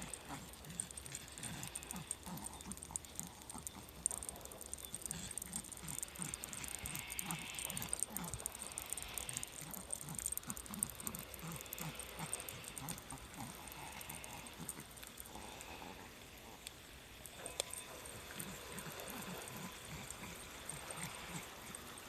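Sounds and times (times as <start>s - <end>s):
small dog panting: 0.0s - 16.6s, 17.2s - 22.0s.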